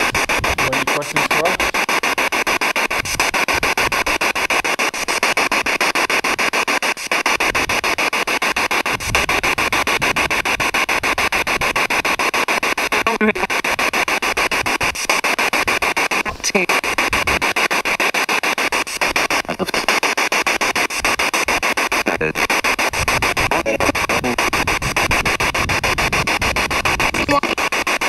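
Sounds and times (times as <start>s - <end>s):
radio static pulsing: 0.0s - 28.0s.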